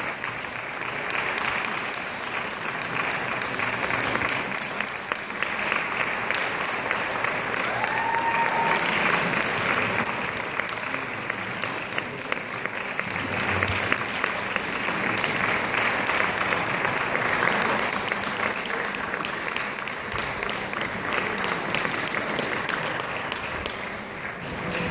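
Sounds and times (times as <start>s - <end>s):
audience applause: 0.0s - 24.9s.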